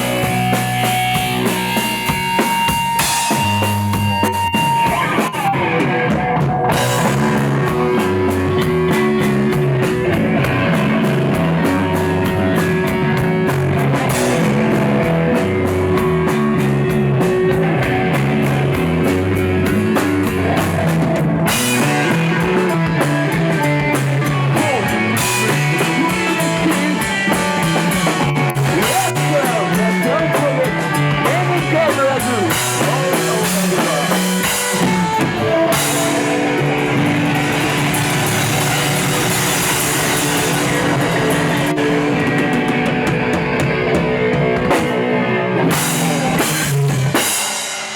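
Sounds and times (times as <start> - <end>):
bass line: 0.0 - 47.4
drum kit: 0.0 - 47.9
electric guitars: 0.0 - 47.9.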